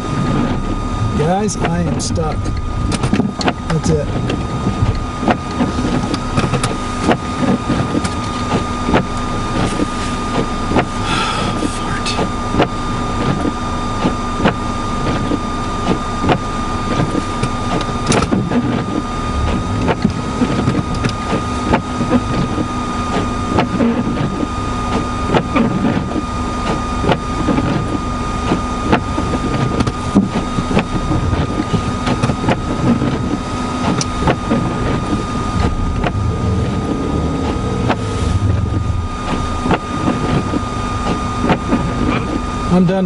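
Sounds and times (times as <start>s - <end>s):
car engine running: 0.0s - 43.0s
thin steady whine: 0.0s - 43.0s.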